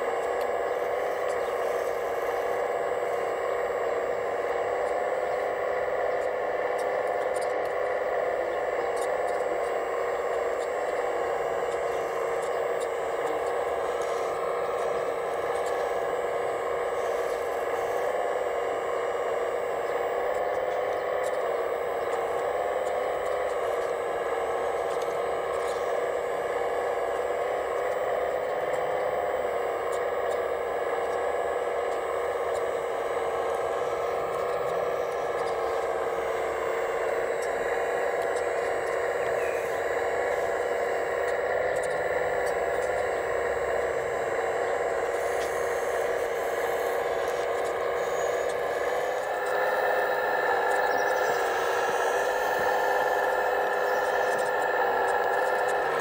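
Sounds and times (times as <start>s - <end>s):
hydraulic pump whining: 0.0s - 56.0s.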